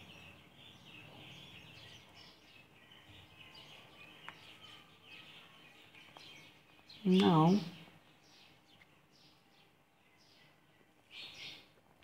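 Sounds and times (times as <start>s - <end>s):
faint high chirps: 0.0s - 12.0s
low background noise: 0.0s - 12.0s.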